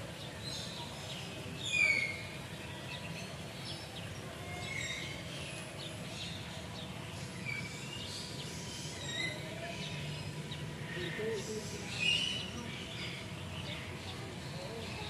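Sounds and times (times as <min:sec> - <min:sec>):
birds chirping: 0:00.0 - 0:15.0
steady low background noise: 0:00.0 - 0:15.0.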